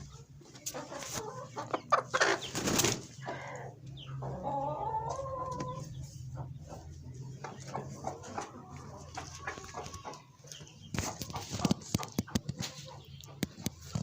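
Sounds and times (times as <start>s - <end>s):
chickens scuffling: 0.0s - 3.3s, 4.2s - 14.0s.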